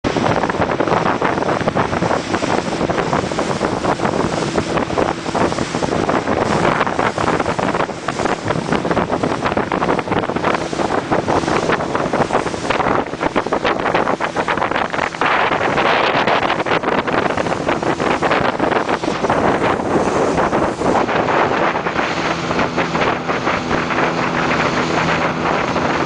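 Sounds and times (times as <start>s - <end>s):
boat motor: 0.0s - 26.0s
water noise: 0.0s - 26.0s
wind buffeting microphone: 0.0s - 26.0s.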